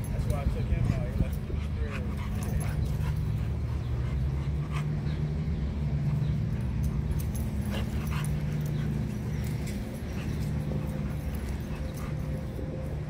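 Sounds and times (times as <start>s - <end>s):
dogs vocalizing while playing: 0.0s - 13.0s
steady low hum: 0.0s - 13.0s.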